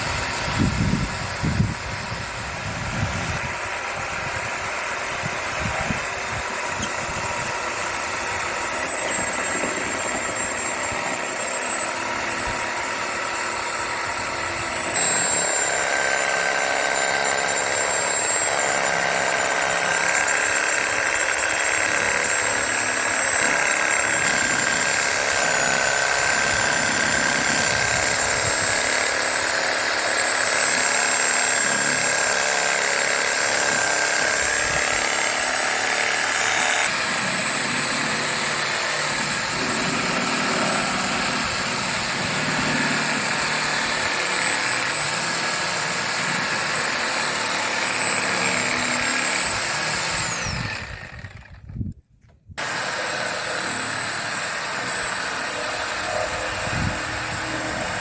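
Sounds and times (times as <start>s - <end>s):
motor whining: 0.0s - 52.0s, 52.6s - 58.0s.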